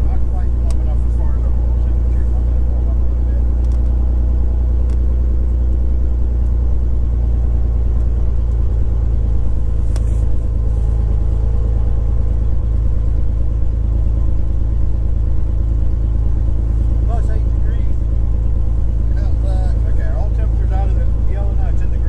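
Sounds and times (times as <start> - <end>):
aircraft engine droning: 0.0 - 22.0.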